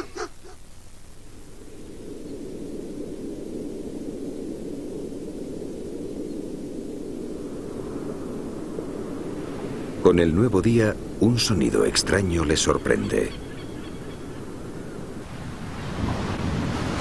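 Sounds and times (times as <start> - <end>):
steady low rushing noise: 1.1 - 16.8.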